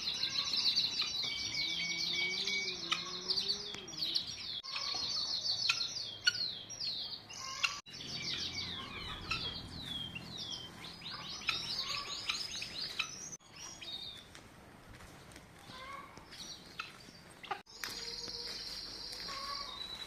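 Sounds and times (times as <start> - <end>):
small birds chirping: 0.0 - 14.4, 15.2 - 20.0.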